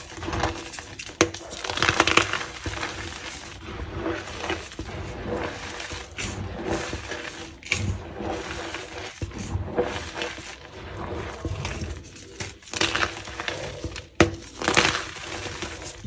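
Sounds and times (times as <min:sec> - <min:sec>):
chalk cracking: 0:00.0 - 0:16.0
chalk crunching by hand: 0:00.0 - 0:16.0.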